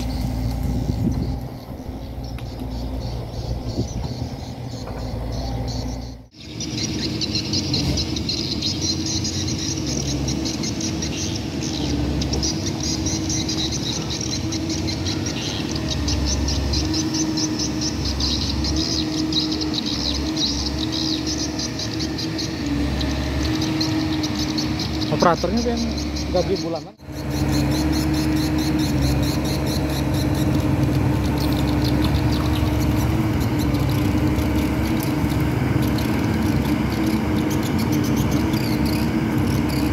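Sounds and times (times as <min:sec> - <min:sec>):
excavator diesel engine running: 0:00.0 - 0:39.9
high rapidly pulsing chirr: 0:00.0 - 0:39.9.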